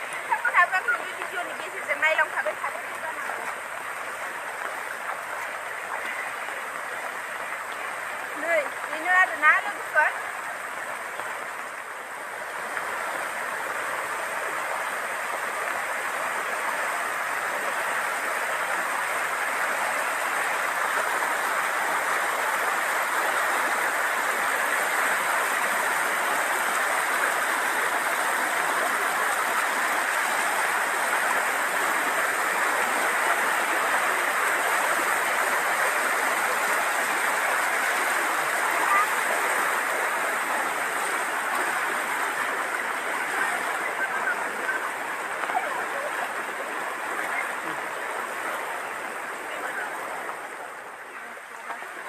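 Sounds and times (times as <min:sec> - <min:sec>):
floodwater rushing: 0:00.0 - 0:52.0.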